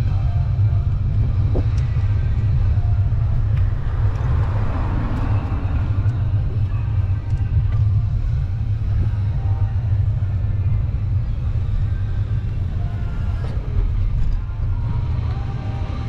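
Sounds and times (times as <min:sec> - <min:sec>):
traffic noise: 0:00.0 - 0:16.0
wind rumble on microphone: 0:00.0 - 0:16.0
vehicle passing: 0:00.4 - 0:15.1.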